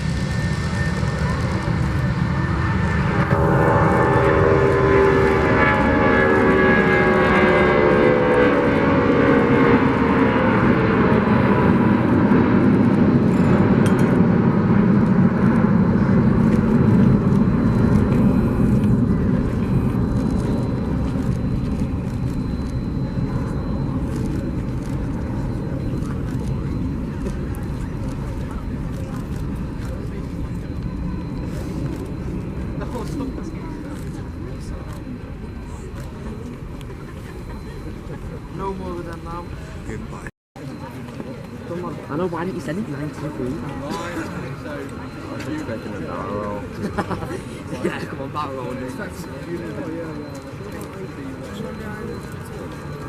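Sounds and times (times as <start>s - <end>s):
jet engines whining: 0.0s - 53.0s
jet roar: 0.0s - 53.0s.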